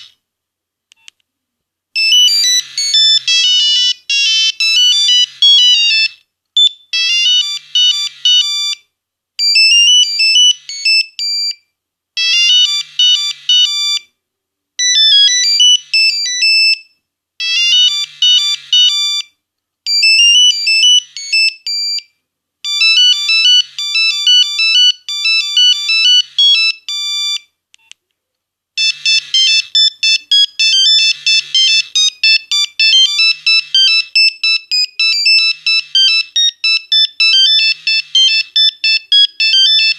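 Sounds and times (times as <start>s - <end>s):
mobile phone ringtone melody: 2.0s - 8.8s, 9.4s - 11.6s, 12.2s - 14.1s, 14.8s - 19.3s, 19.9s - 22.1s, 22.7s - 27.5s, 28.8s - 39.9s.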